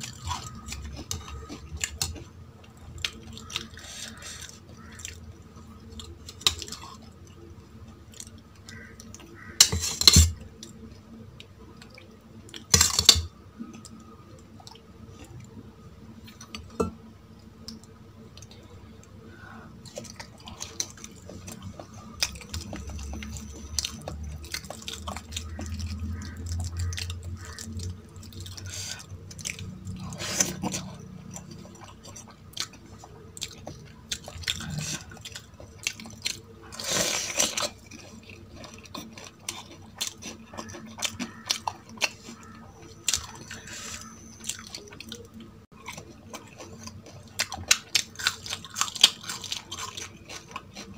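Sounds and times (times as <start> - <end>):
chewing: 0.0 - 15.6, 17.6 - 50.9.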